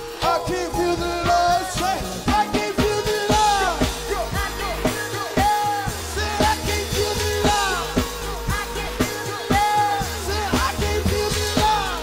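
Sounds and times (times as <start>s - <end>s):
drum kit: 0.0s - 12.0s
low bass: 0.0s - 12.0s
person singing: 0.0s - 12.0s.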